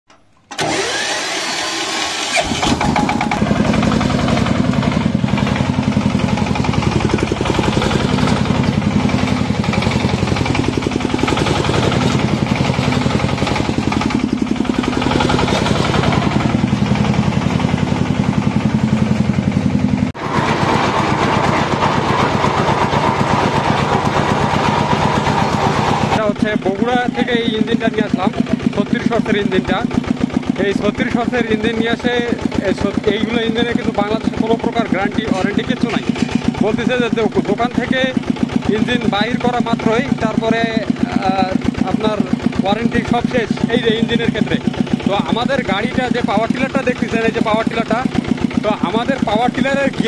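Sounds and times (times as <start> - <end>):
diesel engine cranking: 0.1 - 50.0
rotary blades working soil: 0.5 - 50.0
diesel engine knocking: 2.4 - 50.0.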